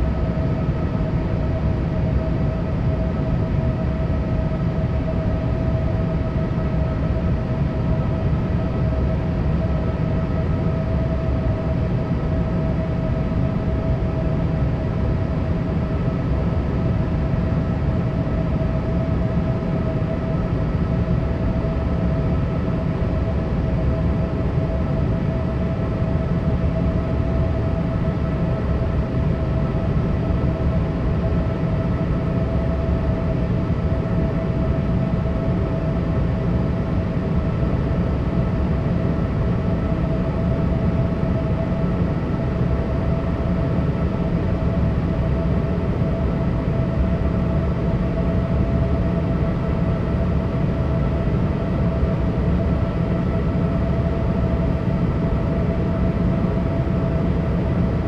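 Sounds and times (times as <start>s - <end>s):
jet engine and airflow roar: 0.0s - 58.0s.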